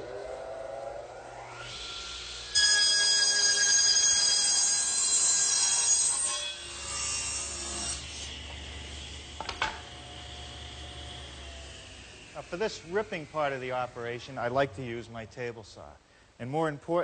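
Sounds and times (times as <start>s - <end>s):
circular saw cutting wood: 0.0s - 15.6s.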